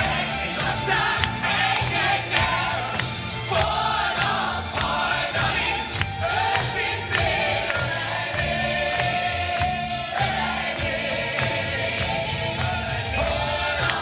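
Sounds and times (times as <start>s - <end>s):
group singing in chorus: 0.0s - 14.0s
low musical accompaniment: 0.0s - 14.0s.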